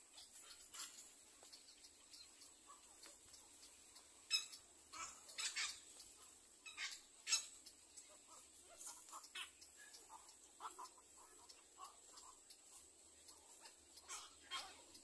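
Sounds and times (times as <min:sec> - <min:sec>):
birds giving sharp calls: 0:00.0 - 0:15.0.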